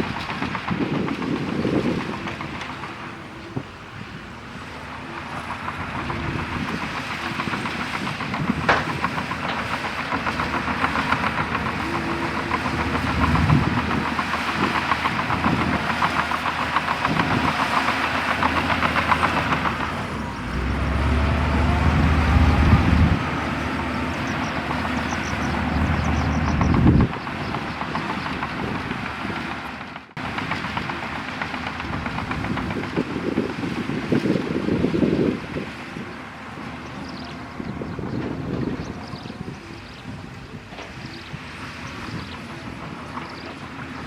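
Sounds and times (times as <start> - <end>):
bulldozer tracks clanking: 0.0 - 44.0
diesel engine rumble: 0.0 - 44.0.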